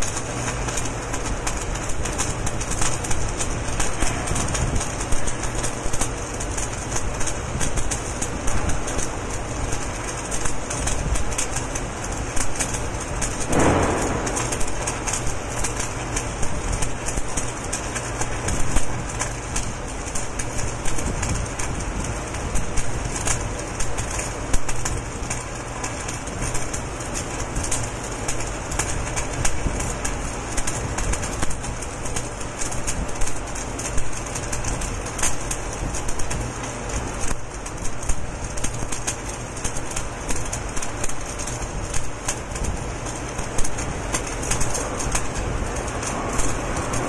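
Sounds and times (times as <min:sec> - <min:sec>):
welding arc crackling and popping: 0:00.0 - 0:47.0.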